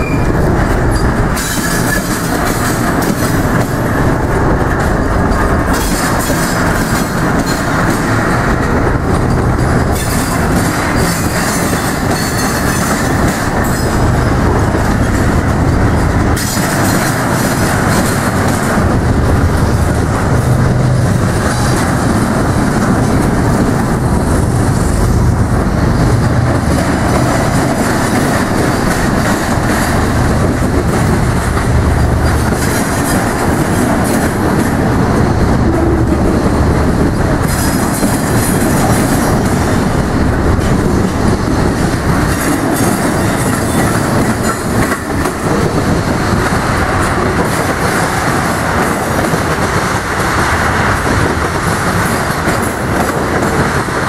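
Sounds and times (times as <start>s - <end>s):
train wheels rumbling on rails: 0.0s - 54.0s
wheels clattering over rail joints: 0.0s - 54.0s.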